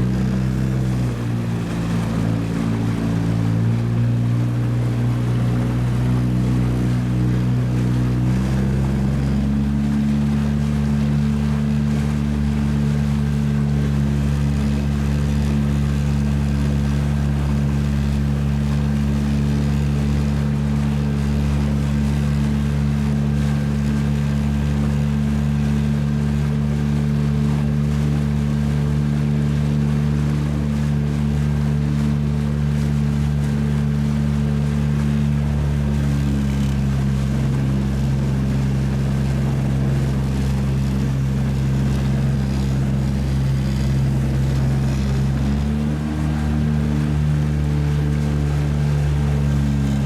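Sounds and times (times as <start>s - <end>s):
motorboat engine running: 0.0s - 50.0s.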